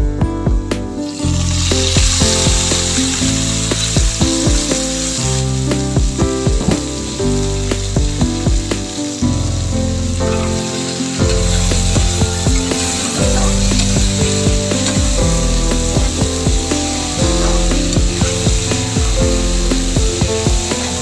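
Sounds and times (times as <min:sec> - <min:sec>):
background music: 0:00.0 - 0:21.0
vegetables sizzling in oil: 0:01.0 - 0:21.0.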